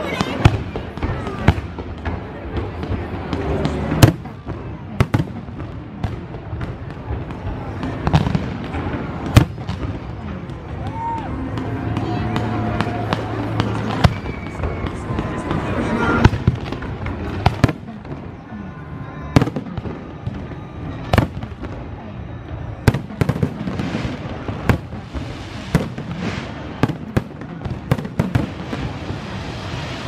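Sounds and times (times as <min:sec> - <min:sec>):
fireworks bursting bangs: 0:00.0 - 0:30.0.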